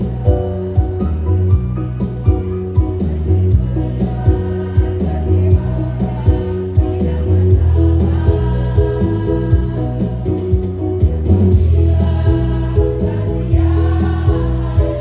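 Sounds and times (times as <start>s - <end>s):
choir singing: 0.0s - 15.0s
musical accompaniment with heavy bass: 0.0s - 15.0s.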